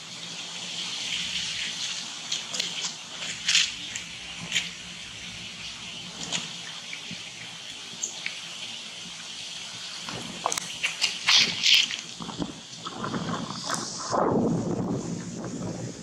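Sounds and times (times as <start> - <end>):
river water rushing: 0.0 - 14.2.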